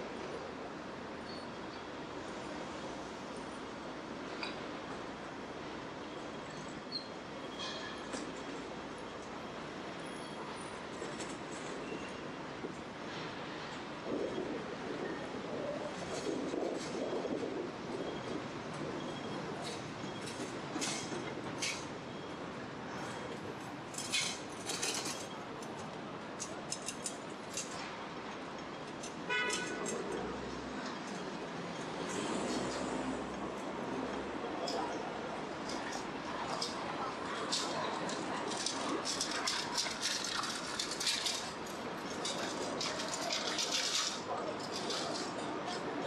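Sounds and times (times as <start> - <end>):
city street hum: 0.0 - 46.0.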